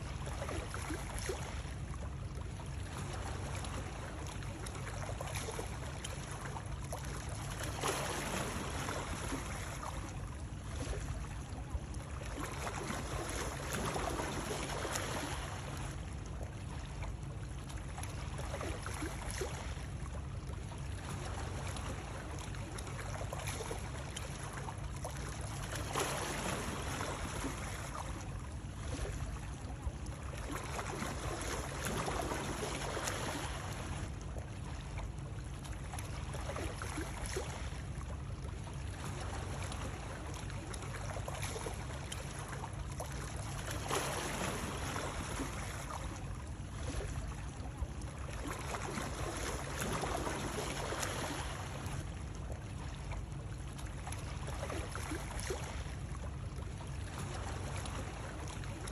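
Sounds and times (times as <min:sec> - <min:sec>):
water lapping: 0:00.0 - 0:58.9.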